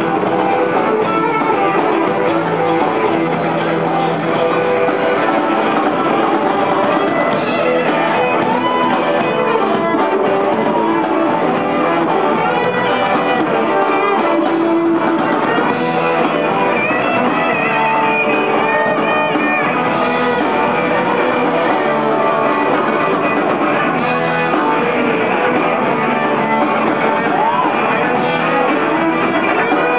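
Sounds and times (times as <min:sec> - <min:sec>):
electric guitar: 0:00.0 - 0:29.9
live rock band playing: 0:00.0 - 0:29.9.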